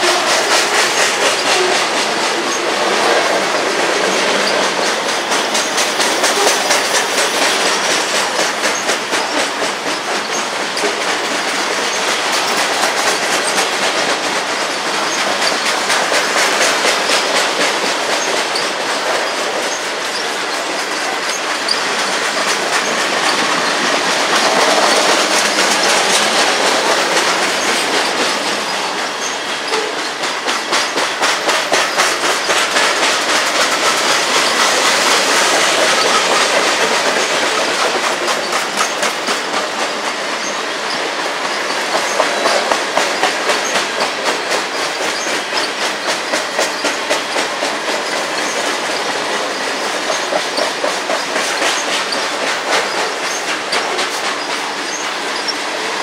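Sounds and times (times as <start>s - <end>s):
clickety-clack of wheels: 0.0s - 56.0s
train wheels rumbling on rail: 0.0s - 56.0s.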